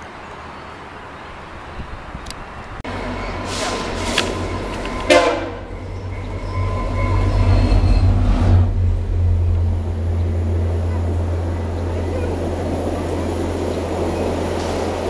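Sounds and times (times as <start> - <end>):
diesel locomotive engine rumble: 1.3 - 15.0.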